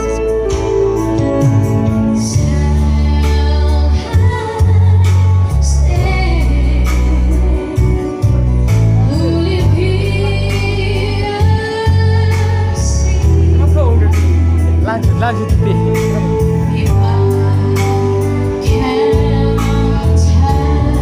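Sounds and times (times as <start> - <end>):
deep bass notes: 0.0 - 21.0.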